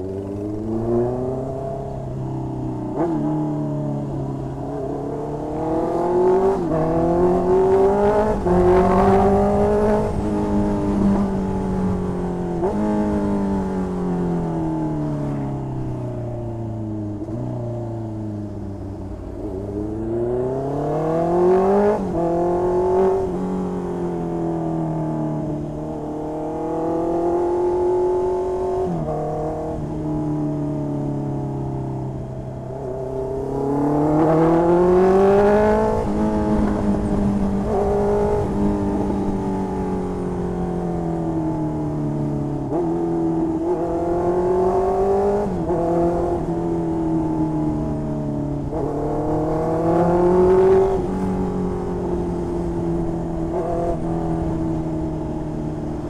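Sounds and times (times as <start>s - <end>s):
motorcycle engine shifting gears: 0.0s - 24.1s, 24.9s - 56.0s.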